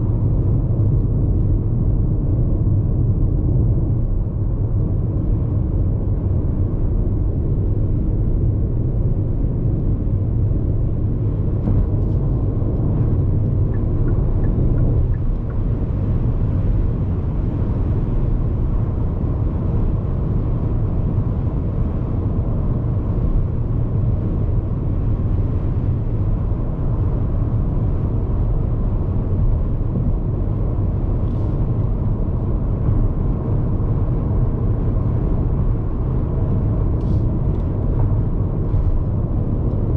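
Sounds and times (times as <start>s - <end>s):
low tyre rumble: 0.0s - 39.9s
wind noise: 0.0s - 39.9s.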